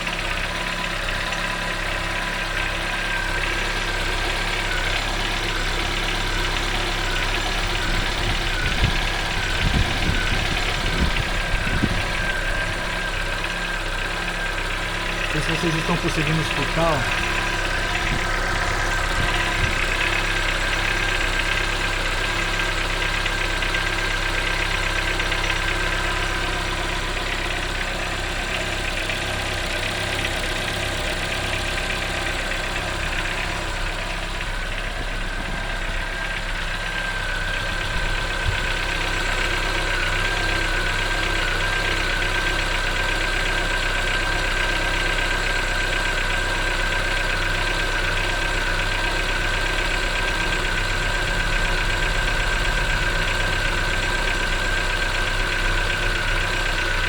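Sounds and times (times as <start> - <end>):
car engine idling: 0.0 - 57.0
fast steady engine tapping: 0.0 - 57.0.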